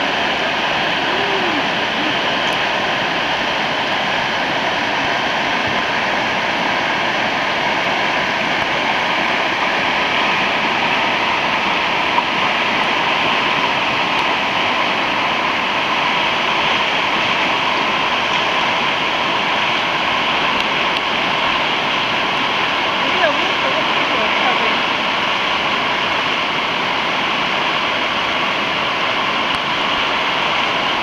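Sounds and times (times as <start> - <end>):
whitewater rapids rushing: 0.0 - 31.0.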